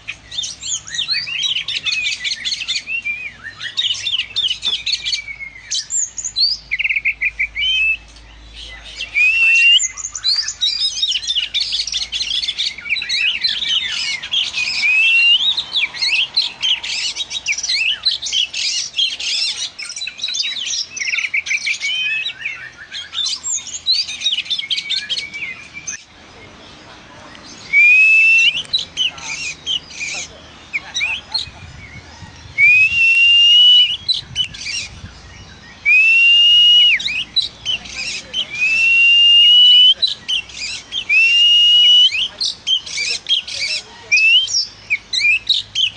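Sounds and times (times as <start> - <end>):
songbird chirping and whistling: 0.0 - 26.2, 27.3 - 45.9.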